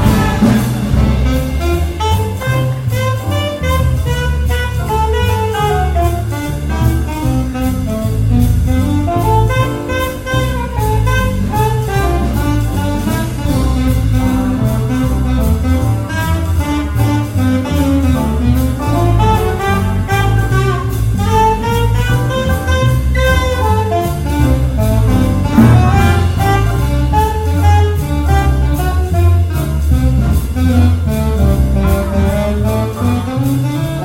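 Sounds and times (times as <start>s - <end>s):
drum kit cymbals: 0.0s - 34.0s
piano: 0.0s - 34.0s
saxophone solo: 0.0s - 34.0s
walking upright bass: 0.0s - 34.0s.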